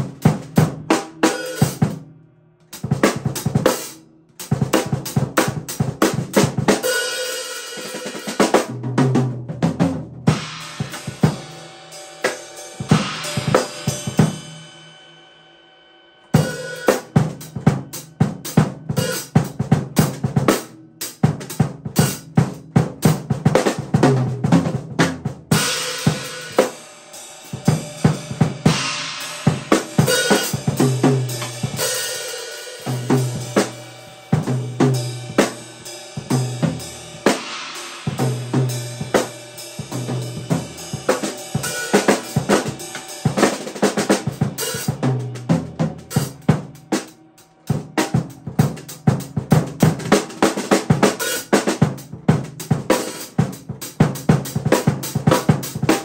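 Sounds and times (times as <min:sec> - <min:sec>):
drum kit beat: 0:00.0 - 0:15.2, 0:16.2 - 0:56.0.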